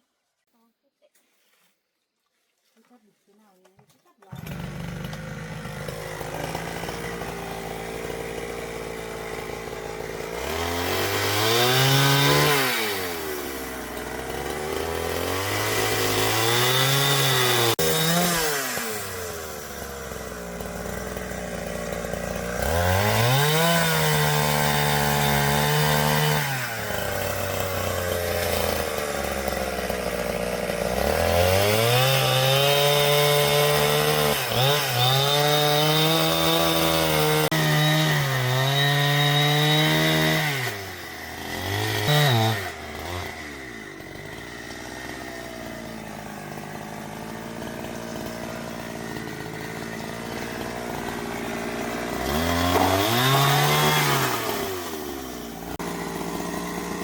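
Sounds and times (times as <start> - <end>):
chainsaw revving and cutting wood: 3.4 - 57.0.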